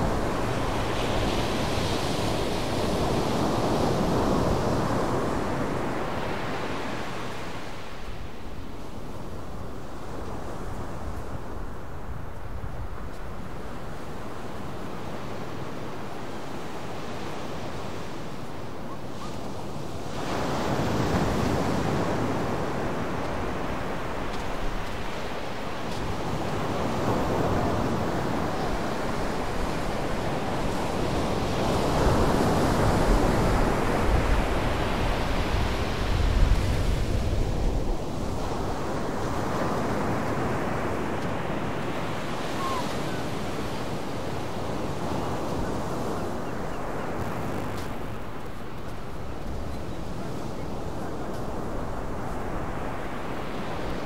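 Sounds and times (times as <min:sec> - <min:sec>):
surf washing up beach: 0:00.0 - 0:54.0
wind rumble on microphone: 0:00.0 - 0:54.0.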